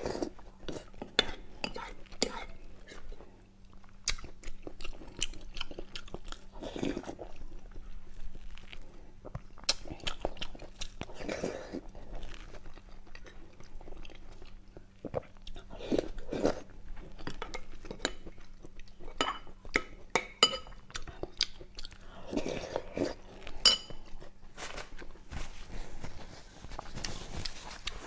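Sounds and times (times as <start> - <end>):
close chewing and wet mouth sounds: 0.0 - 24.4.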